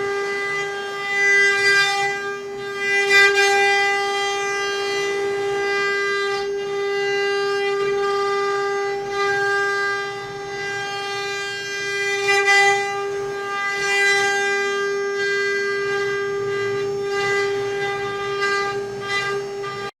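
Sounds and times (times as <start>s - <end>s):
router spindle whine: 0.0s - 20.0s.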